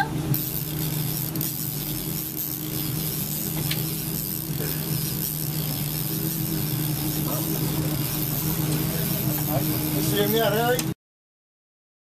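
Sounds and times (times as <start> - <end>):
boat engine humming: 0.0 - 10.9
fishing reel whirring: 0.3 - 11.0.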